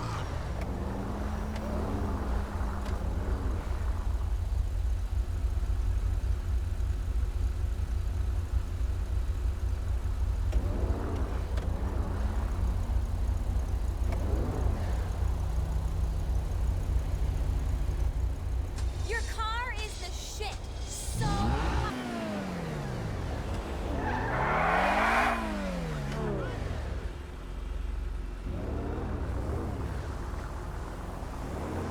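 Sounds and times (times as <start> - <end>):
car engine rumbling and revving: 0.0 - 31.9.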